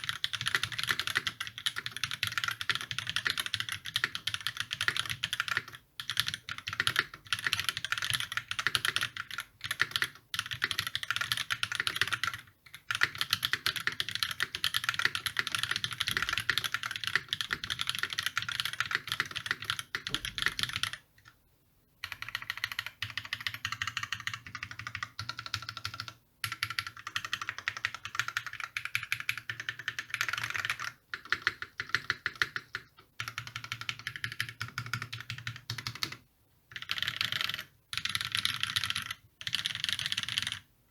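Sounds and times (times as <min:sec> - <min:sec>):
mechanical keyboard typing: 0:00.0 - 0:21.4, 0:22.0 - 0:40.7.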